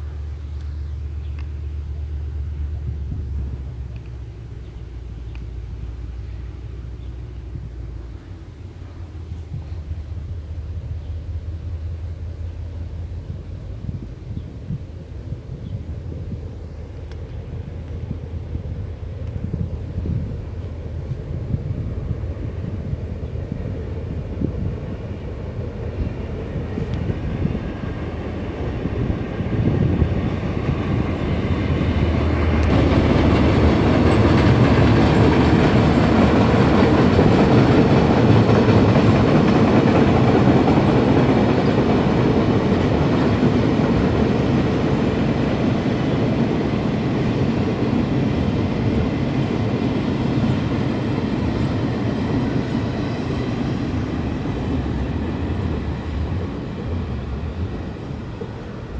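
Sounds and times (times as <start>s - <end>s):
train wheels rumbling and clattering: 0.0s - 58.9s.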